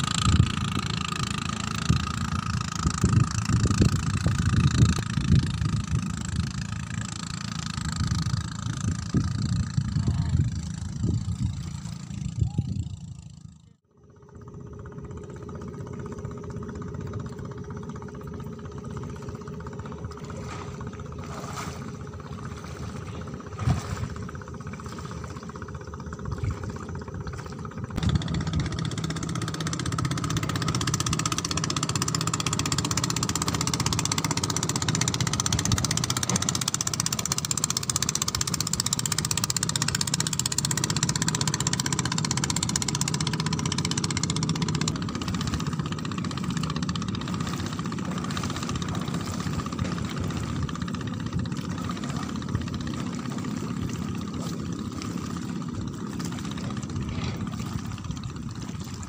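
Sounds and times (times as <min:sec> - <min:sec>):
motor humming: 0:00.0 - 0:59.0.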